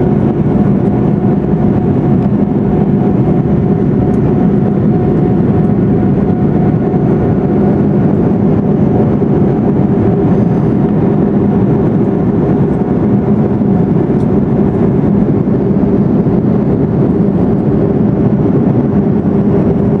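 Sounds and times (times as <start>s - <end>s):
jet cabin engine roar: 0.0s - 20.0s
low hum: 0.0s - 20.0s
rushing airflow: 0.0s - 20.0s.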